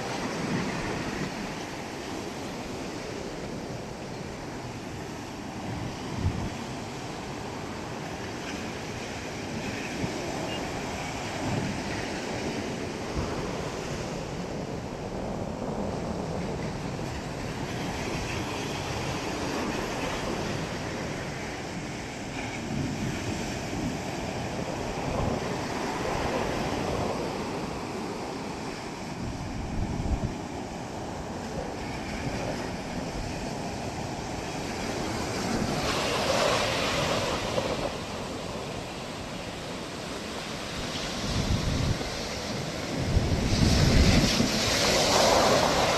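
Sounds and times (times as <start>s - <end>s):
ocean waves breaking on shore: 0.0s - 45.9s
wind buffeting microphone: 0.0s - 45.9s.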